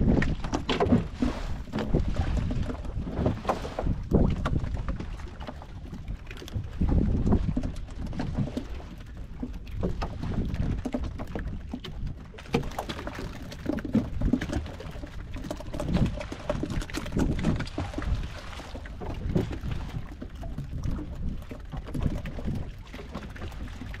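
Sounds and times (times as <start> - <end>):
water lapping against boat hull: 0.0 - 24.0
wind rumbling on microphone: 0.0 - 24.0.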